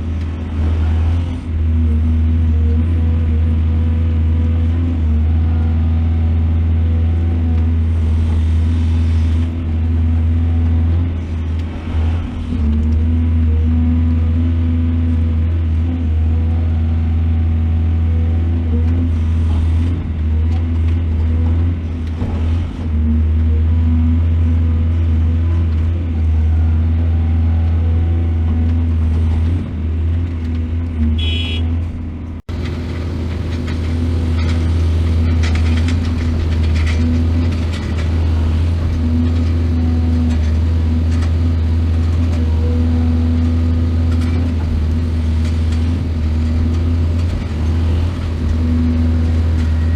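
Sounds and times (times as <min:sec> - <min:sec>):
heavy diesel excavator engine: 0:00.0 - 0:49.9.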